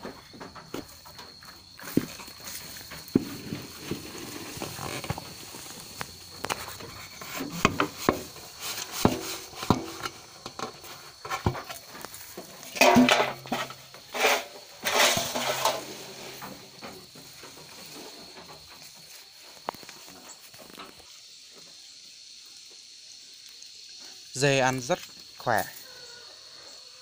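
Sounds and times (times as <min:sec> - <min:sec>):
grass feed rustling: 0:00.1 - 0:21.8.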